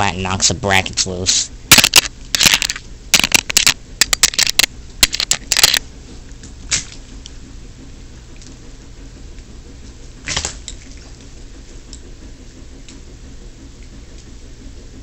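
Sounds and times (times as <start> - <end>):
ceiling fan clattering: 0.0 - 15.0
steady low hum: 0.0 - 15.0.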